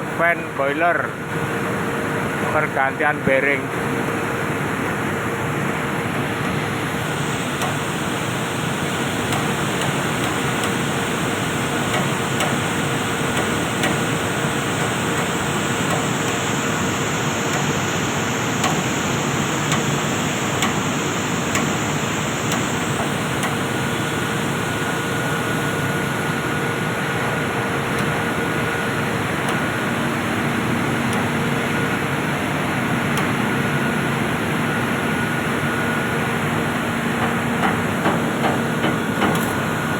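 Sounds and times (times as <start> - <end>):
faint steady hums: 0.0 - 39.9.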